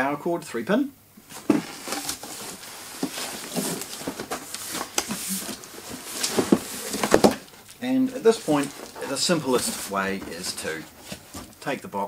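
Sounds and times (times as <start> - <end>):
cardboard rubbing and scraping: 1.2 - 11.6.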